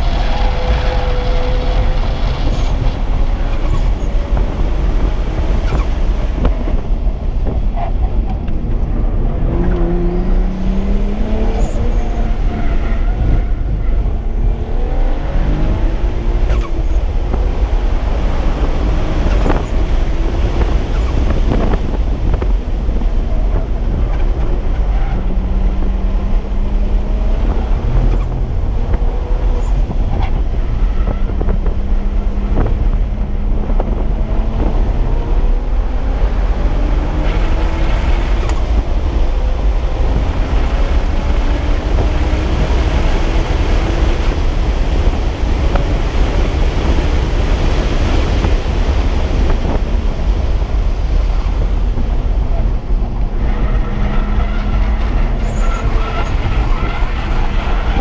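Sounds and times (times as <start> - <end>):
car engine accelerating: 0.0 - 58.0
wind and road rumble: 0.0 - 58.0.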